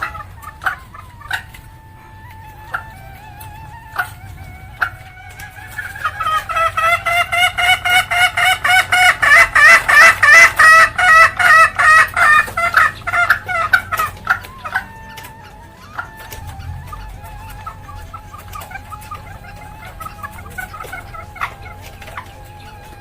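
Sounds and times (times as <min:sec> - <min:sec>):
junglefowl hen cackling: 0:00.0 - 0:23.0.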